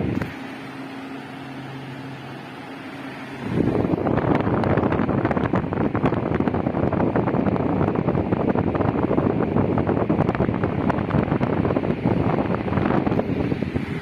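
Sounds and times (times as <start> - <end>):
table fan airflow buffeting microphone: 0.0 - 14.0.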